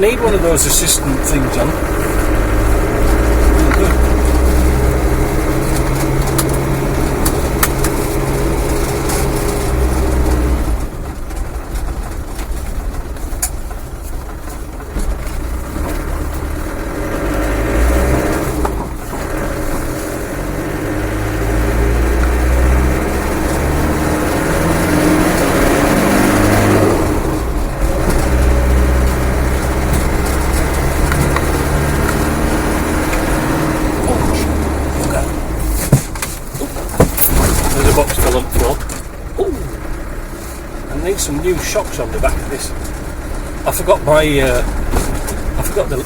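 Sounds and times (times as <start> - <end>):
diesel engine running through gears: 0.0 - 46.0.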